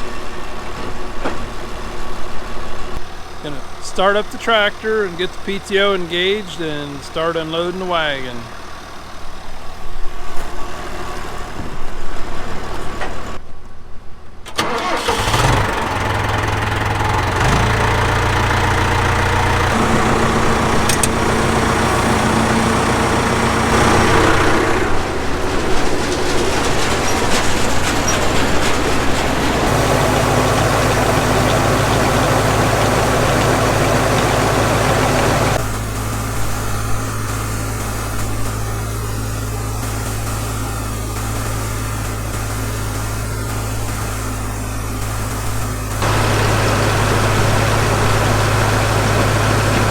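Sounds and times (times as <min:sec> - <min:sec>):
tractor diesel engine running: 0:00.0 - 0:13.4, 0:14.5 - 0:49.9.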